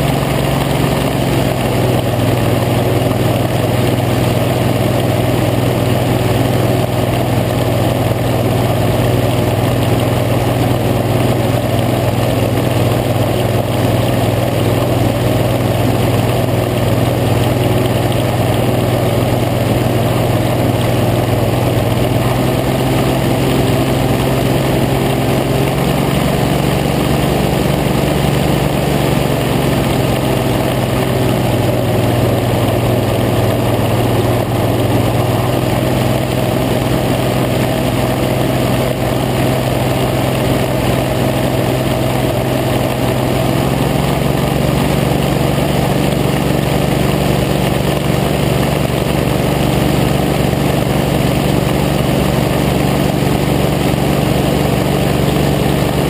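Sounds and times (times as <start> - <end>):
hovercraft engine drone: 0.0 - 56.0.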